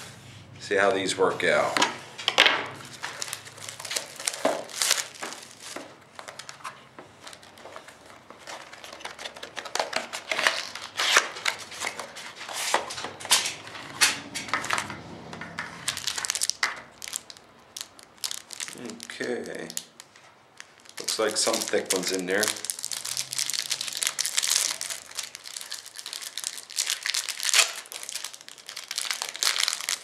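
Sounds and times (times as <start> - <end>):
plastic wrap crinkling and tearing: 2.8 - 12.9, 15.8 - 30.0.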